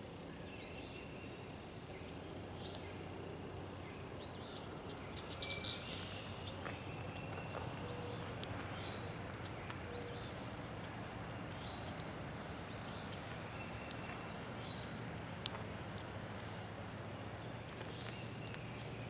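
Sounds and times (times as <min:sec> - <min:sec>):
campfire crackling: 0:00.0 - 0:19.0
songbirds chirping: 0:00.0 - 0:19.0.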